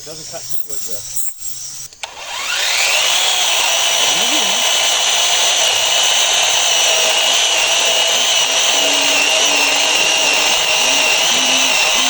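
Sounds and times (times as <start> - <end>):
cutting tool motor whine: 1.9 - 12.0.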